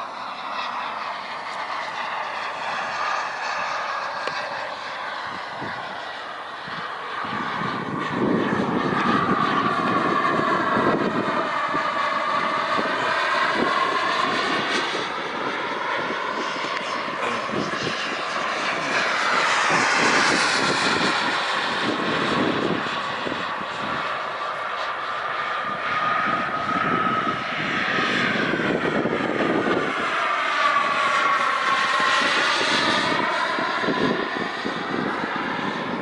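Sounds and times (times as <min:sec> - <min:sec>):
model jet turbine whining: 0:00.0 - 0:36.0.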